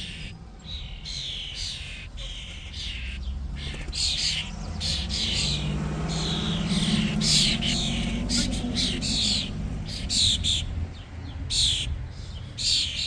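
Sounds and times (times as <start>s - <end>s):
young songbirds chirping: 0.0s - 13.0s.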